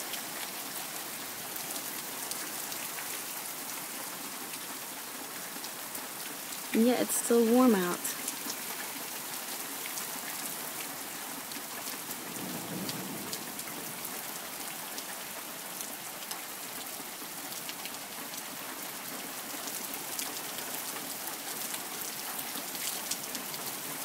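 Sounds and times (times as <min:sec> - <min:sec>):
heavy rain: 0:00.0 - 0:24.0
raindrops tapping surfaces: 0:00.0 - 0:24.0.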